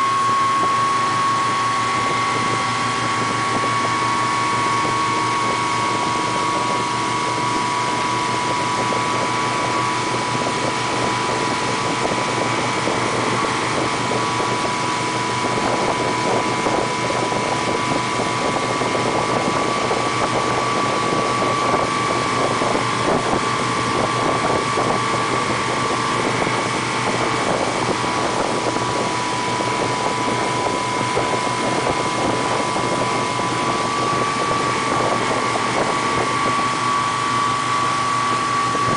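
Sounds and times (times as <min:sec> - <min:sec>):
boat engine whining: 0:00.0 - 0:38.9
wind on microphone: 0:00.0 - 0:38.9.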